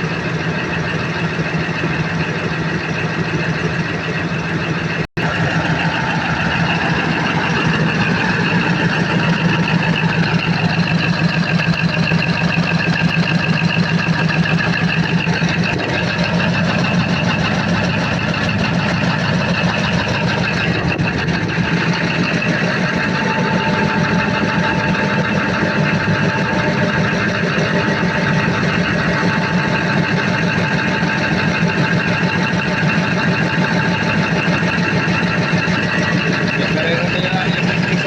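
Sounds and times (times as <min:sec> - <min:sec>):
diesel engine idling: 0:00.0 - 0:38.0
thin steady whine: 0:00.0 - 0:38.0.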